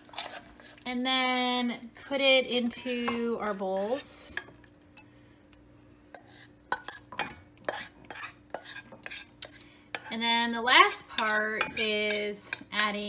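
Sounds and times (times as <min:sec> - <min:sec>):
utensil scraping metal bowl: 0:00.0 - 0:04.5, 0:06.1 - 0:13.0.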